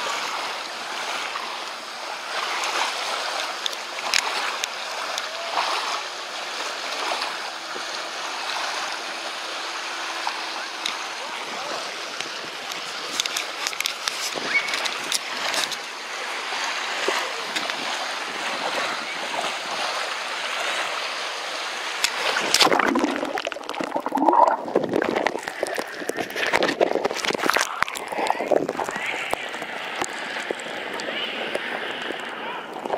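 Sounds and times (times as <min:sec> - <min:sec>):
seawater sloshing and gurgling: 0:00.0 - 0:32.9
water splashes: 0:00.0 - 0:32.9.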